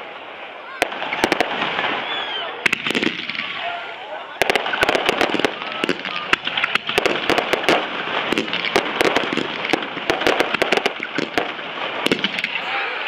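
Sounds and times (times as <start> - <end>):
fireworks bursting with sharp bangs: 0.7 - 13.0.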